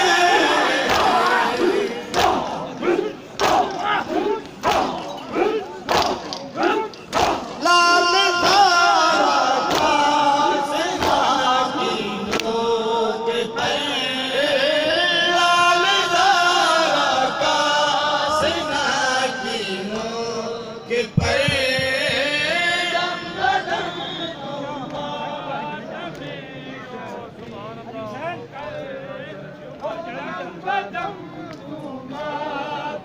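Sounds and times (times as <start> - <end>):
men chanting: 0.0 - 33.0.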